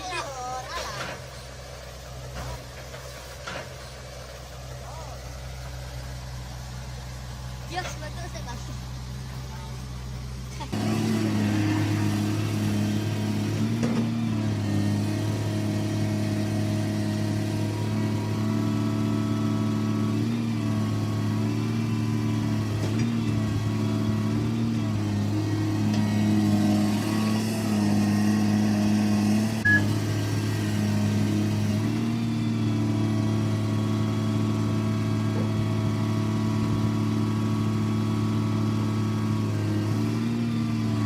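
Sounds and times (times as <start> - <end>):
engine revving: 6.2 - 41.0.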